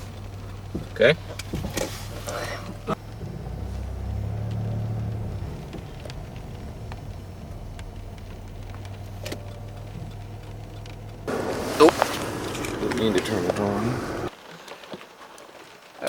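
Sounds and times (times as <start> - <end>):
car engine rumbling: 0.0 - 14.5
faint clicks: 0.0 - 16.0.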